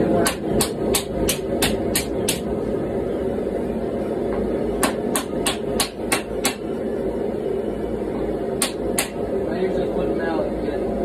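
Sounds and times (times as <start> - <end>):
gas forge roaring: 0.0 - 11.0.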